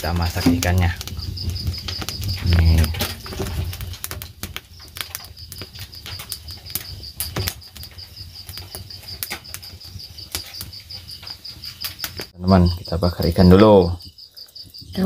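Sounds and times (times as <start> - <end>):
pulsing insect chirp: 0.0 - 15.0
wood fire crackling and popping: 0.0 - 15.0.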